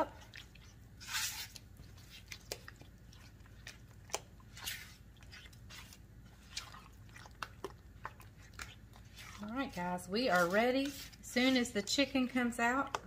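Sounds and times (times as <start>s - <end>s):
soft squishing of thick mixture: 0.0s - 13.0s.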